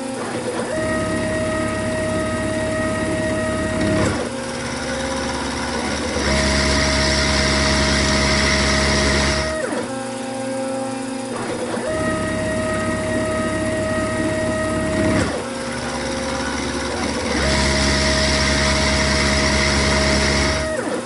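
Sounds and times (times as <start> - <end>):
milling machine motor whine: 0.0 - 21.0.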